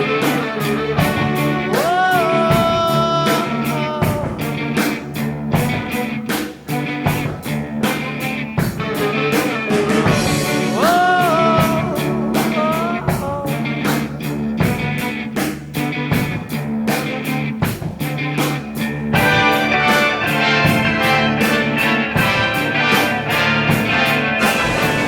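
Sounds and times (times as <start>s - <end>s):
bending guitar lead: 0.0s - 25.0s
rock music: 0.0s - 25.0s
steady drum beat: 0.0s - 25.0s.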